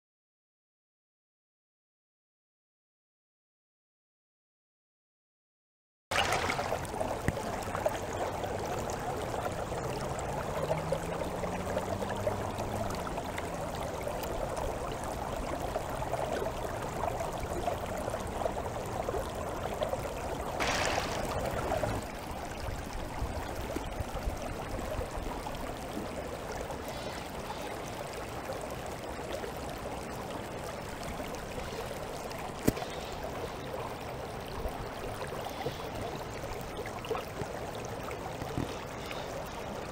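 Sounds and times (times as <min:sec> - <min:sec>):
stream water running: 0:06.1 - 0:39.9.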